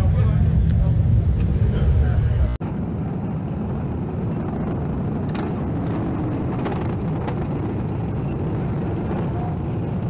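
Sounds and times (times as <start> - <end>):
motorcycle engines rumbling: 0.0 - 10.0.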